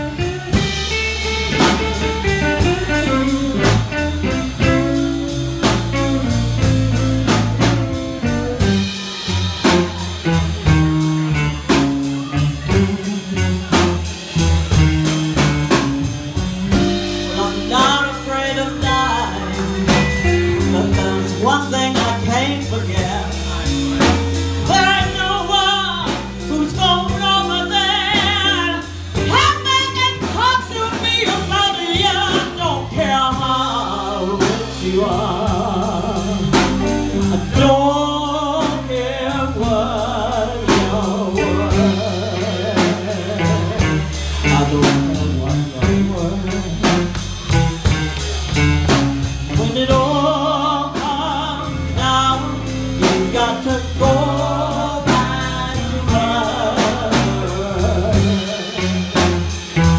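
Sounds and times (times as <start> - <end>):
blues band playing: 0.0 - 59.9
drum kit beat: 0.0 - 59.9
lead guitar line with vibrato: 0.0 - 59.9.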